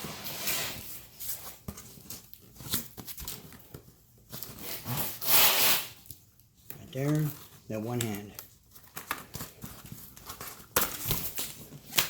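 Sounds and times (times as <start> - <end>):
packaging rustling and scraping: 0.0 - 12.0.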